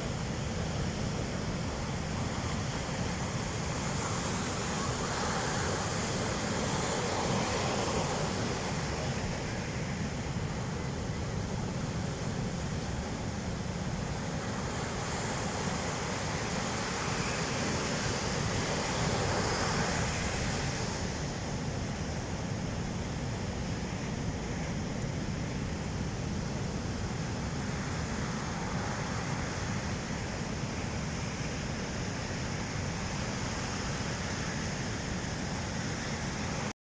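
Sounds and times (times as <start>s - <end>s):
ocean waves washing on beach: 0.0s - 36.7s.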